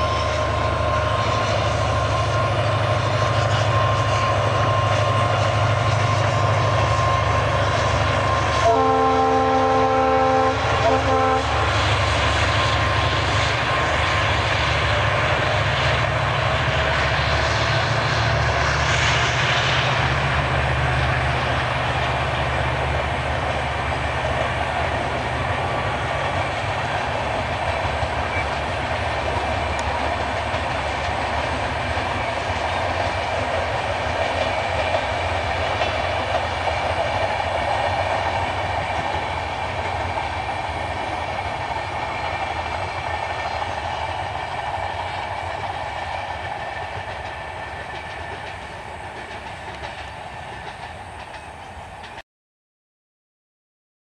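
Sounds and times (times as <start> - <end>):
train coaches rolling past: 0.0 - 52.2.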